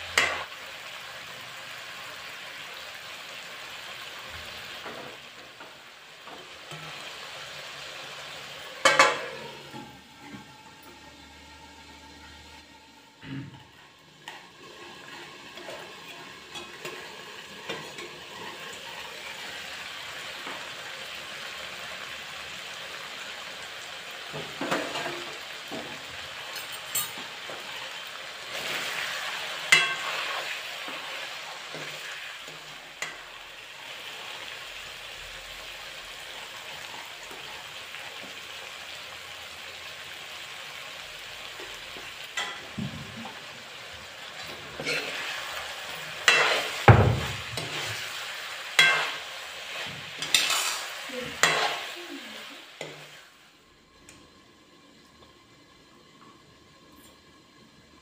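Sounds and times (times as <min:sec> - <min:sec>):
chicken sizzling in a wok: 0:00.0 - 0:58.0.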